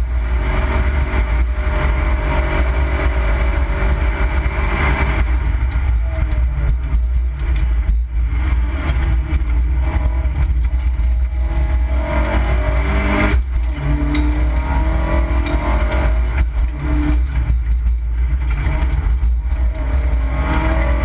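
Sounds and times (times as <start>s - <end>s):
car engine revving hard: 0.0s - 21.0s
heavy low rumble: 0.0s - 21.0s.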